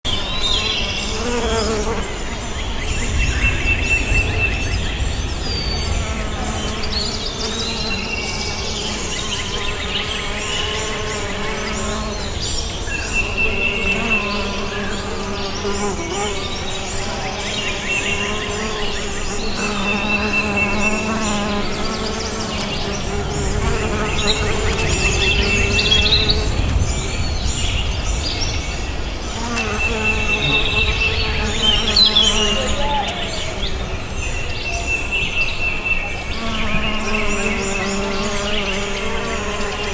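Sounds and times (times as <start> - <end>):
songbirds chirping: 0.1 - 39.9
bees buzzing: 0.6 - 2.6, 5.3 - 34.0, 36.3 - 39.9.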